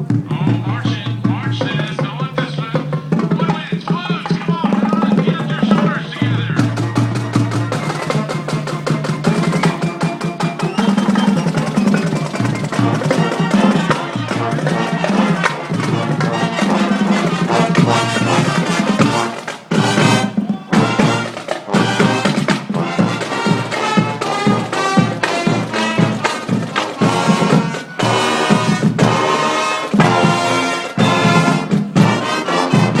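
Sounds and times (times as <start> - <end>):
band with brass and drums: 0.0 - 33.0.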